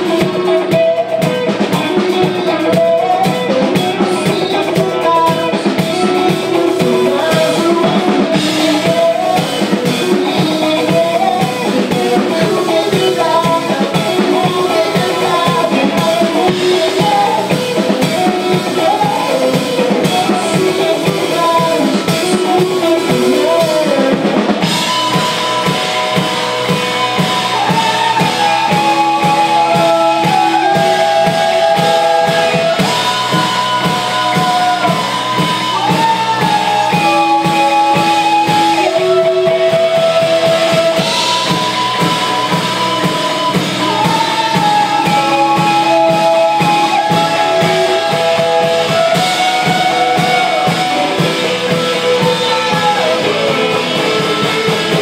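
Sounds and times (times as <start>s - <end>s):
live rock band playing: 0.0s - 55.0s
man singing: 0.0s - 55.0s.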